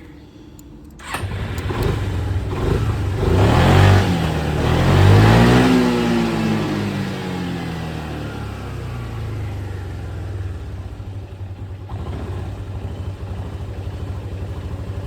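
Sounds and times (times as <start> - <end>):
scooter engine idling: 1.0 - 15.0.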